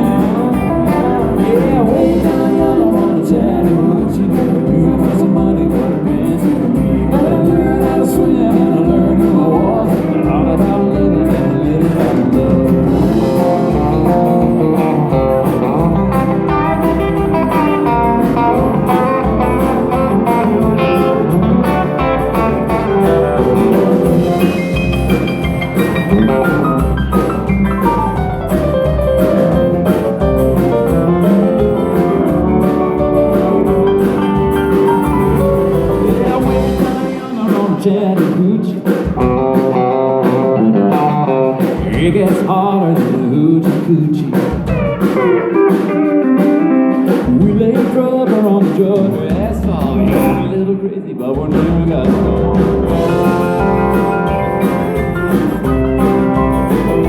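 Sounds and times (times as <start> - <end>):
live country band: 0.0 - 57.0.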